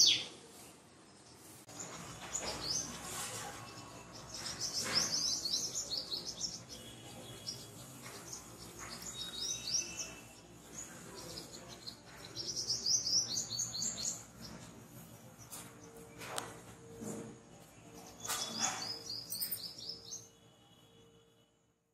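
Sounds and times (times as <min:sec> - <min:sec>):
small birds chirping: 0:00.0 - 0:20.4.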